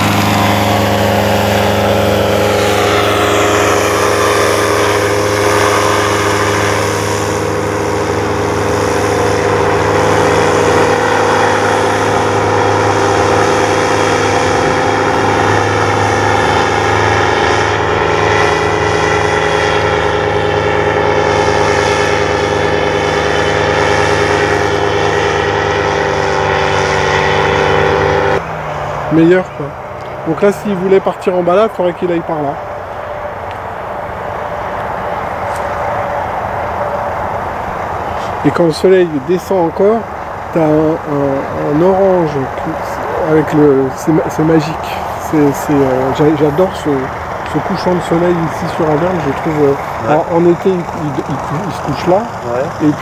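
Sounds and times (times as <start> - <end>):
paramotor engine and propeller: 0.0 - 53.0.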